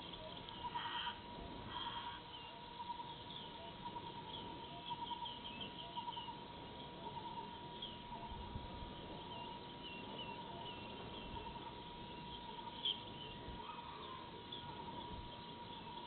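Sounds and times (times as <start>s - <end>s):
small animals chirping: 0.0s - 16.0s.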